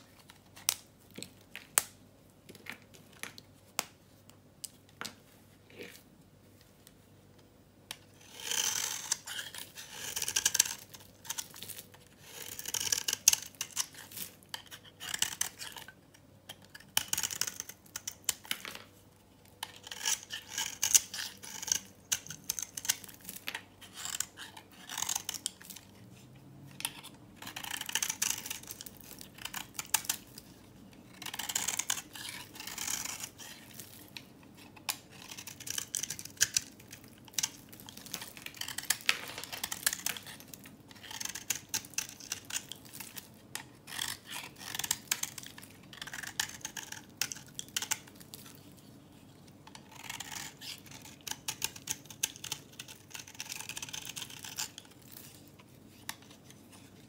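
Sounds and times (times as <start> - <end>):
knife shaving soap: 7.9 - 57.0.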